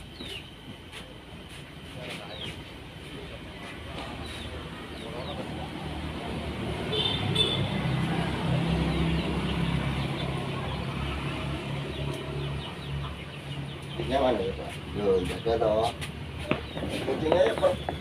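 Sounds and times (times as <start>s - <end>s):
bird chirping: 0.0s - 0.7s, 2.0s - 5.9s, 6.9s - 18.0s
vehicle engine humming: 0.0s - 18.0s.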